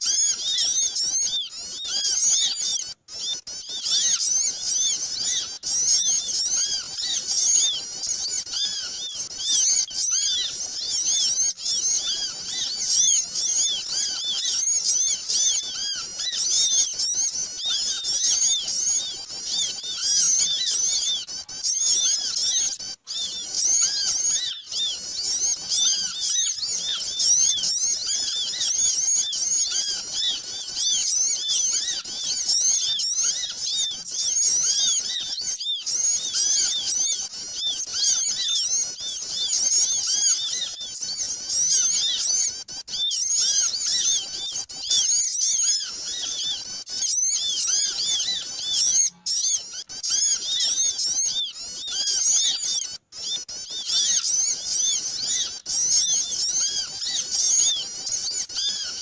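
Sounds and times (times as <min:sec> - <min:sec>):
many small birds chirping: 0:00.0 - 0:59.0.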